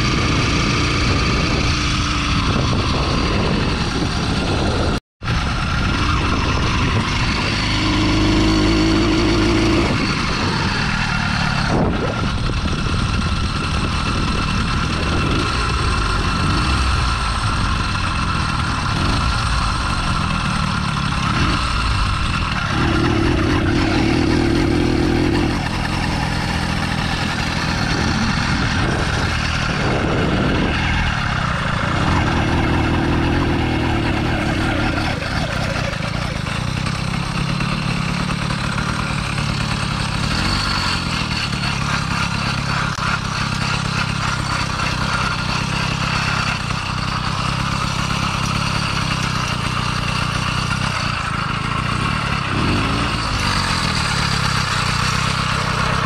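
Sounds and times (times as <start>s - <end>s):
two-stroke bicycle engine running: 0.0s - 56.0s.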